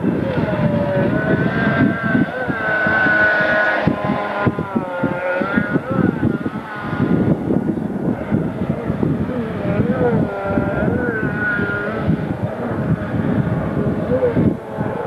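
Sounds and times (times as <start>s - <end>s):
jet ski engine whining: 0.0s - 15.0s
wind buffeting microphone: 0.0s - 15.0s.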